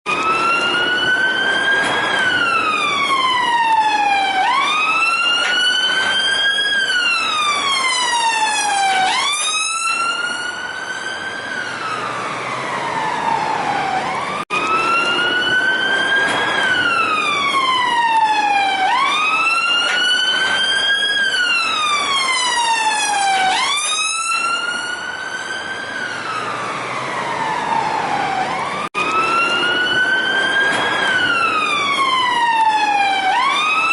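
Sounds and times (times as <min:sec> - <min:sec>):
police siren wailing: 0:00.1 - 0:33.9
traffic hum: 0:00.1 - 0:33.9.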